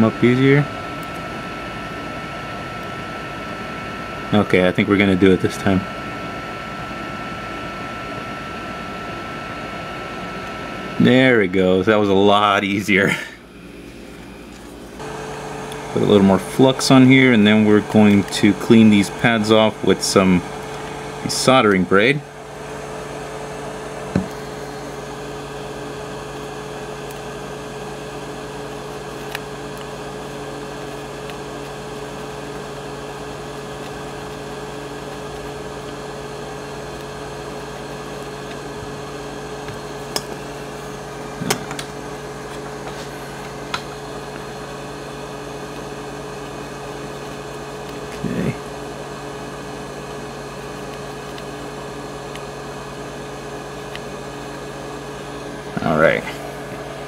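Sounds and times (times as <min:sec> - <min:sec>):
electric blower humming: 0:00.0 - 0:57.0.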